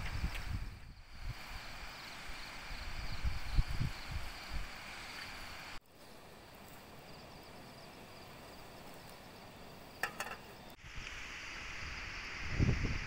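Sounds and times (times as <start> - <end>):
insects chirping: 0.0 - 13.0
steady low hiss: 0.0 - 13.0.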